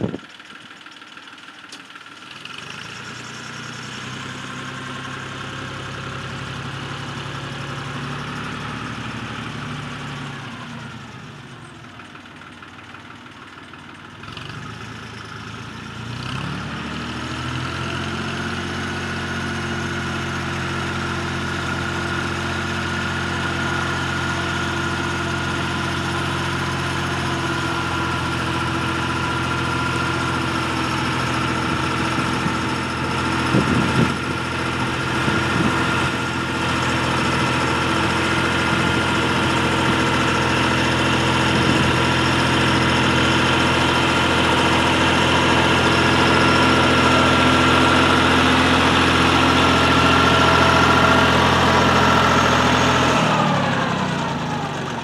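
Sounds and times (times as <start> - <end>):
tractor engine mowing weeds: 0.0 - 55.0.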